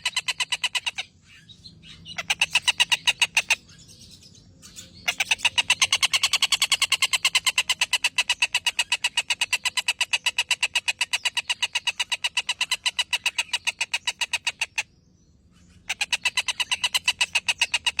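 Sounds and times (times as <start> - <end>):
bird calling in rapid rattle: 0.0 - 1.1, 2.2 - 3.7, 5.0 - 14.9, 15.8 - 18.0.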